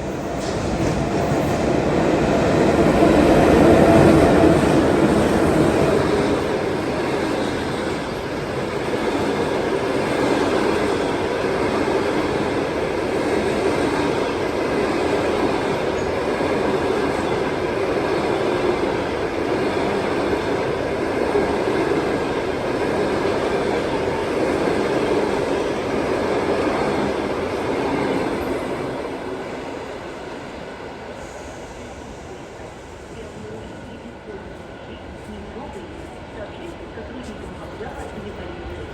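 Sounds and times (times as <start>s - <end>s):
train wheels rolling on rails: 0.0s - 38.9s.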